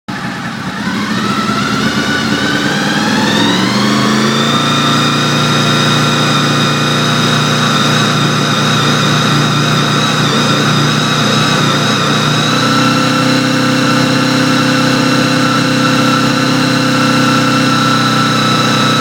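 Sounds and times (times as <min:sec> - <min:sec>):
engine misfiring: 0:00.1 - 0:19.0
motorcycle engine revving: 0:00.1 - 0:19.0.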